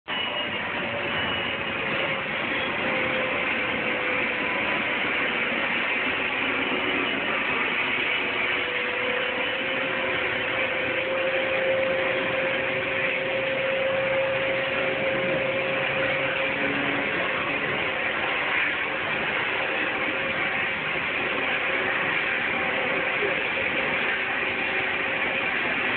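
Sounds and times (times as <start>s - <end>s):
jet engines whining: 0.1s - 25.9s.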